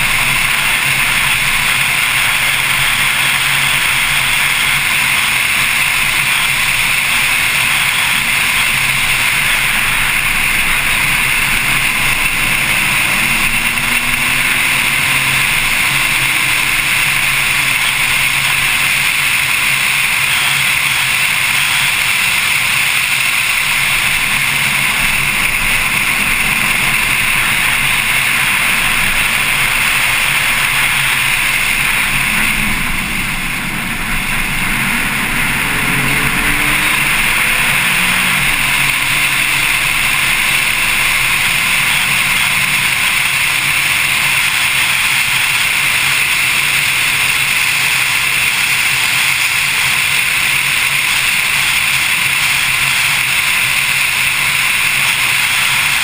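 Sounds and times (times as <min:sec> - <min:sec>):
faint car engine: 0:00.0 - 0:56.0
wind and road noise: 0:00.0 - 0:56.0.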